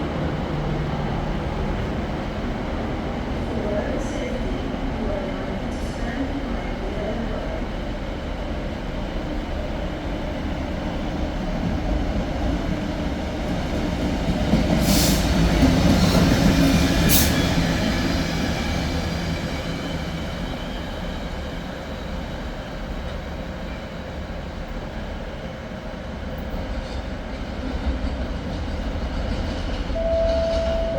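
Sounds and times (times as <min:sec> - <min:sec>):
train passing: 0:00.0 - 0:30.9.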